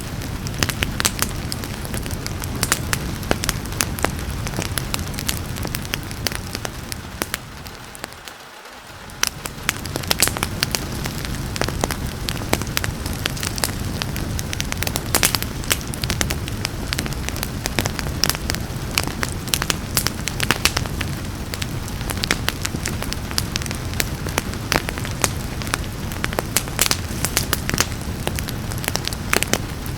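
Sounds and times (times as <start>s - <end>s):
rain hiss: 0.0s - 29.9s
wood fire crackling and popping: 0.0s - 29.9s.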